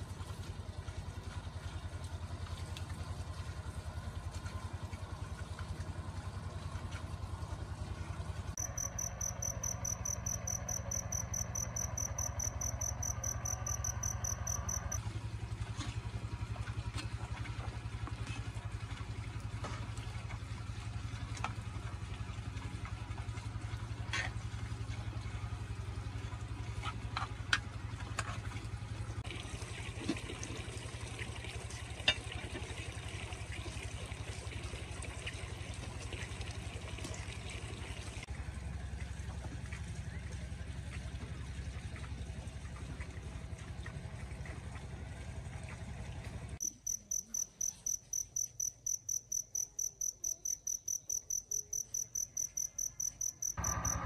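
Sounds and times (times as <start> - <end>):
small engine droning: 0.0 - 54.0.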